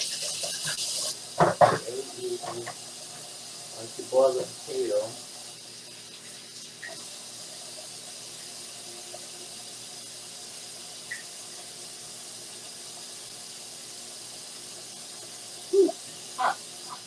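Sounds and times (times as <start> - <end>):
tap water running: 0.0 - 17.0.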